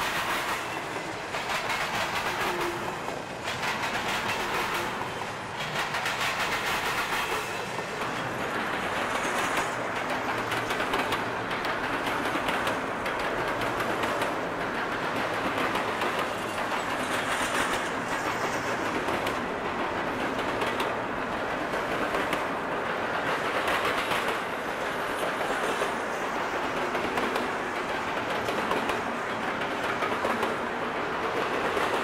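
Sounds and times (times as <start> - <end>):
faint rail clicks: 0.0 - 32.0
train wheels rumbling on track: 0.0 - 32.0.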